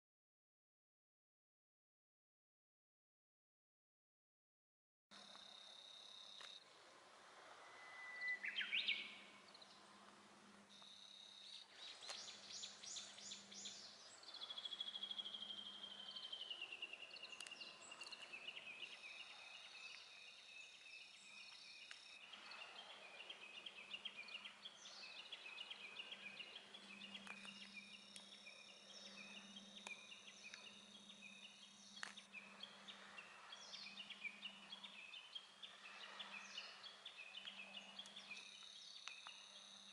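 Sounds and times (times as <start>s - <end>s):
faint low hum: 5.2s - 39.9s
songbirds singing: 7.3s - 39.9s.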